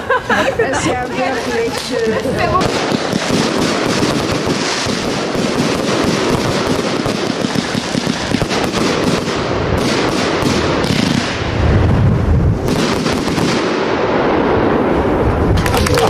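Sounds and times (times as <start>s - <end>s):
fireworks crackling: 0.8s - 16.0s
fireworks boom: 1.8s - 16.0s.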